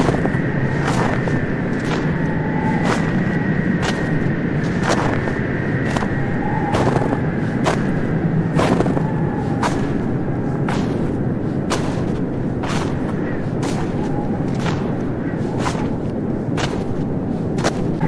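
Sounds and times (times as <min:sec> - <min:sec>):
footsteps crunching in snow: 0:00.0 - 0:18.0
steady background rumble: 0:00.0 - 0:18.0.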